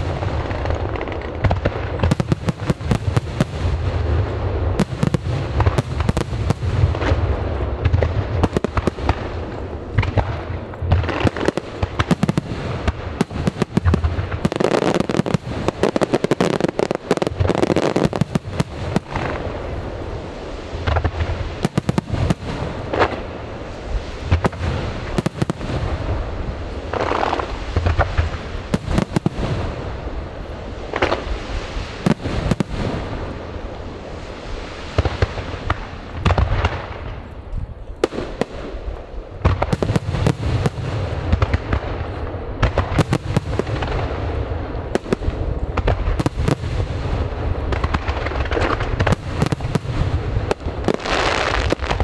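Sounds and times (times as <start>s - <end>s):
fireworks bangs and booms: 0.0s - 52.0s
fireworks crackling: 0.0s - 52.0s.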